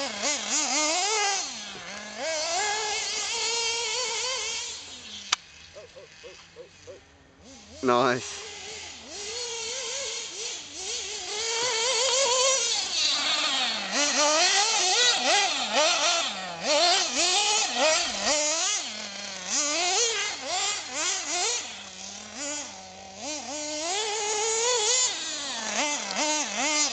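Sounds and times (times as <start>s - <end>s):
rc nitro engine revving: 0.0s - 26.9s.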